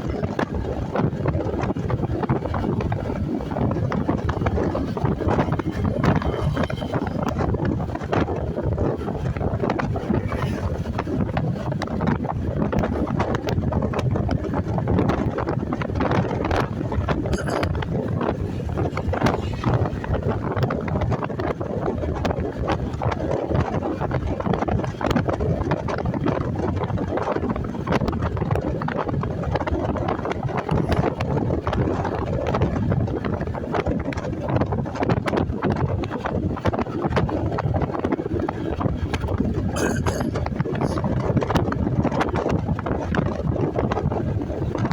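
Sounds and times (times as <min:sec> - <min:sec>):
road noise: 0:00.0 - 0:44.9
wind buffeting microphone: 0:00.0 - 0:44.9.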